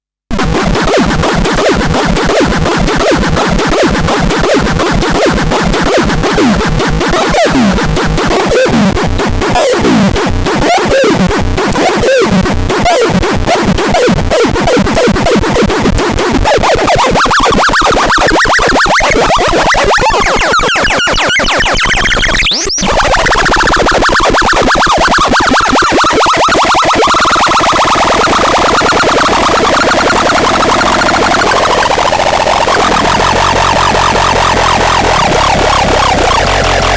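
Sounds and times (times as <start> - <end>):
noisy electronic synthesizer music: 0.3 - 36.9.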